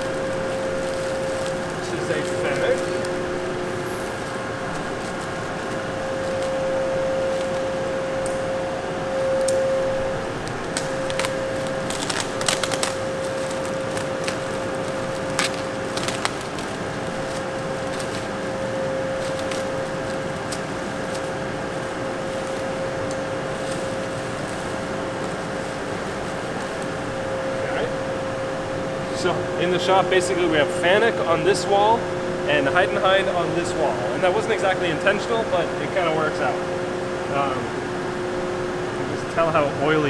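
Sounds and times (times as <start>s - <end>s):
machine shop hum with whine: 0.0s - 40.0s.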